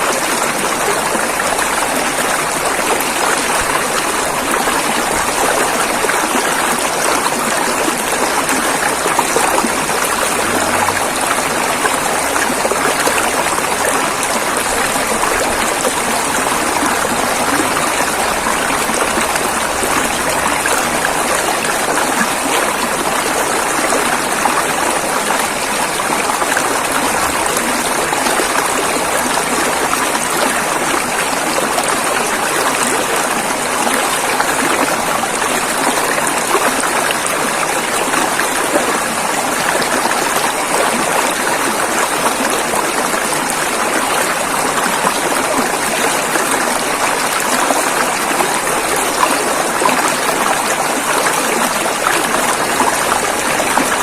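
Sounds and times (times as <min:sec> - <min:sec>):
river water rushing over rocks: 0:00.0 - 0:54.0.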